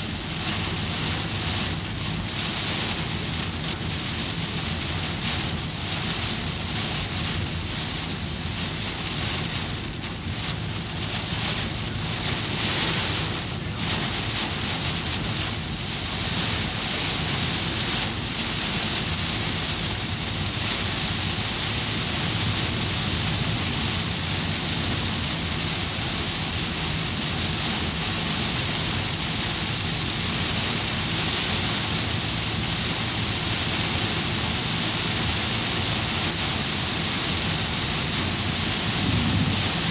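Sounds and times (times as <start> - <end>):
heavy rain on car roof: 0.0 - 39.9
tyres rumbling on wet road: 0.0 - 39.9.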